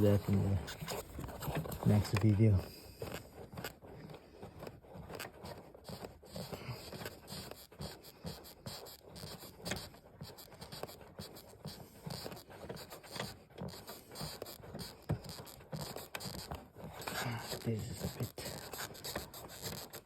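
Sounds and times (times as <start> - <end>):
hands scraping and rubbing parts: 0.0 - 20.0.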